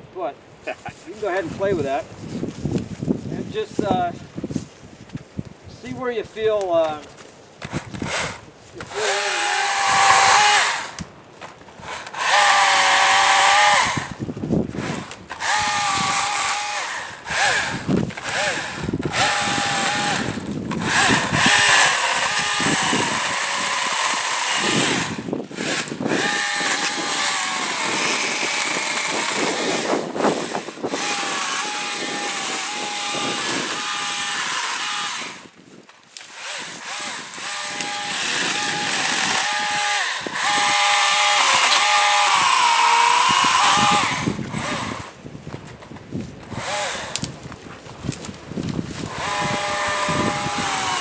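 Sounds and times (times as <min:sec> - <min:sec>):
electric chainsaw cutting wood: 0:07.6 - 0:45.2, 0:46.4 - 0:51.0.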